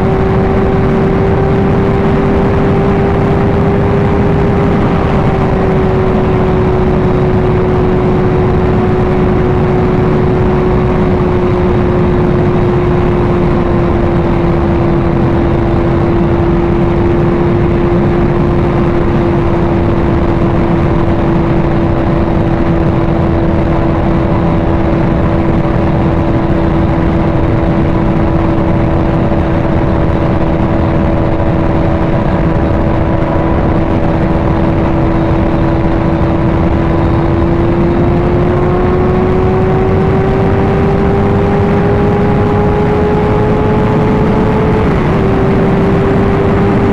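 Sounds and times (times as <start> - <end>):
motorcycle engine cruising: 0.0 - 46.9
wind rush on microphone: 0.0 - 46.9.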